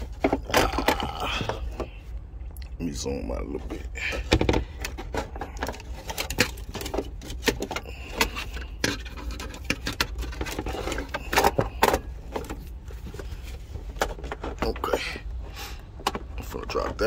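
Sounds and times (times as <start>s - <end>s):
hands fumbling among wiring: 0.0s - 2.2s, 3.4s - 17.0s.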